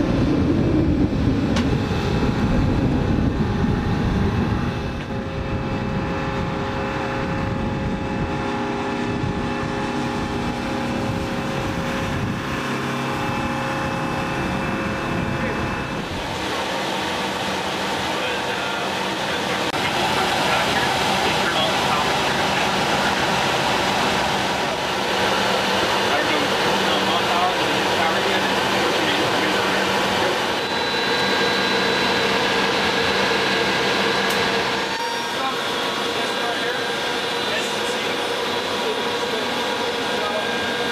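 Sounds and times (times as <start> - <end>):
aircraft turbine drone: 0.0 - 40.9
faint high whine: 0.0 - 40.9.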